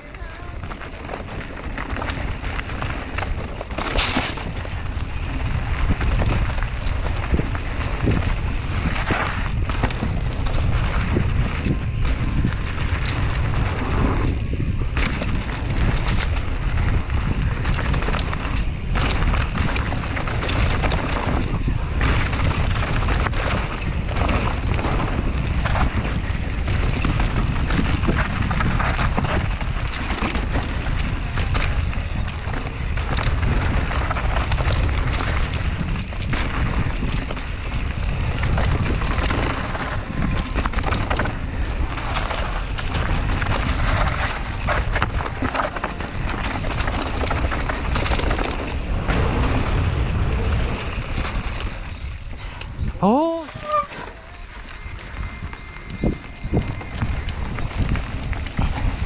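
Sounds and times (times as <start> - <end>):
bike rattling on rough trail: 0.0 - 59.0
wind buffeting microphone: 0.0 - 59.0.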